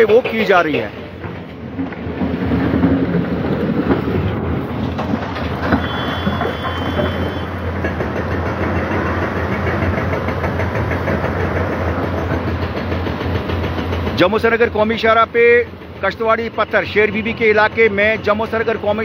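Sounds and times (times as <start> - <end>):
excavator diesel engines running: 0.0 - 19.0.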